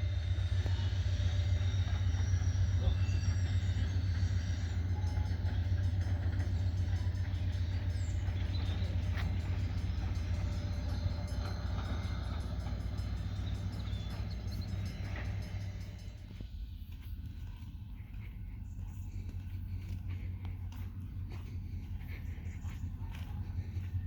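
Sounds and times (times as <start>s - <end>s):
diesel locomotive engine rumbling: 0.0s - 24.0s.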